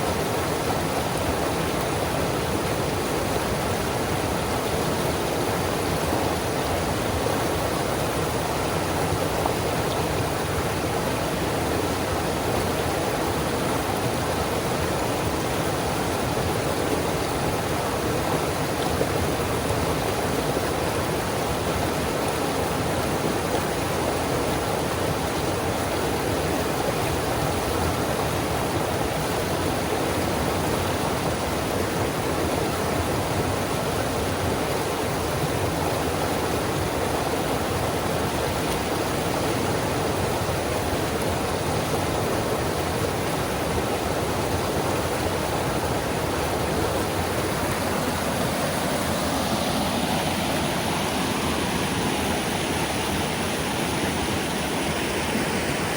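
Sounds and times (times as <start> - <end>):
river rapids rushing: 0.0 - 55.9.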